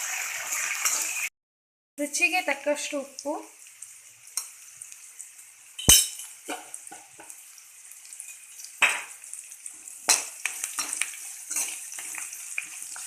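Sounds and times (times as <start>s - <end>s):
spices sizzling in hot oil: 0.0s - 1.3s, 2.0s - 13.0s.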